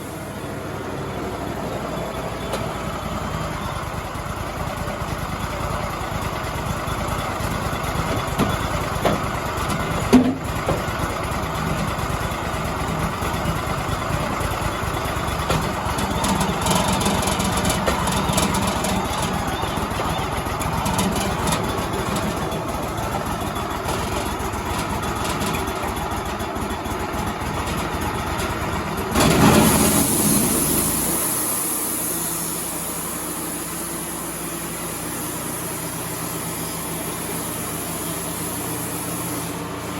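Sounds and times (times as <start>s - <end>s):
band sawmill engine running: 0.0s - 39.9s.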